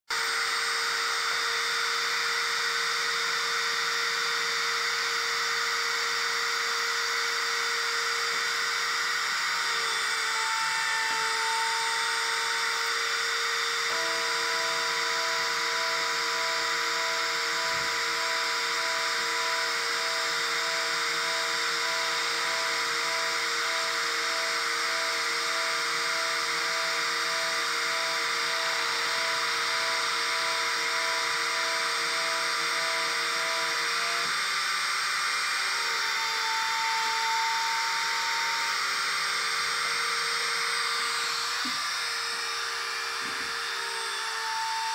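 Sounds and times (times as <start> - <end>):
spindle motor high whine: 0.1 - 44.9.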